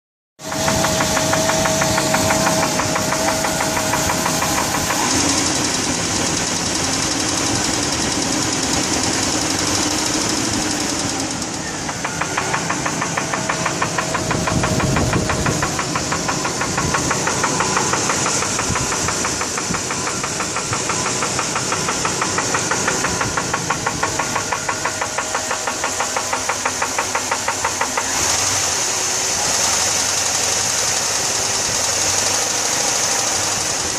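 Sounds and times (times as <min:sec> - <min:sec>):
engine running with rapid knock: 0:00.4 - 0:33.9.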